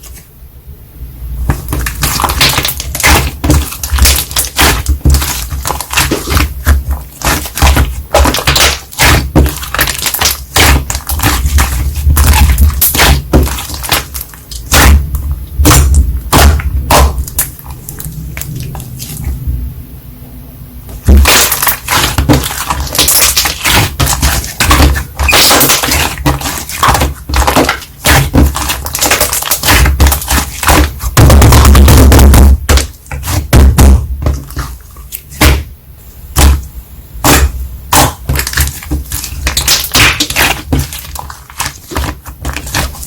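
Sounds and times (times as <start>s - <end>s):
slime crackling and popping: 1.5s - 19.2s, 21.0s - 35.7s, 37.2s - 43.0s.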